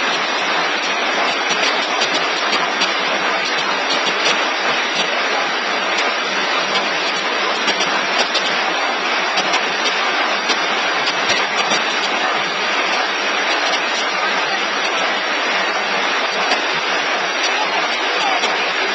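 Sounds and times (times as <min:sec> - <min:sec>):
machine running: 0:00.0 - 0:18.9.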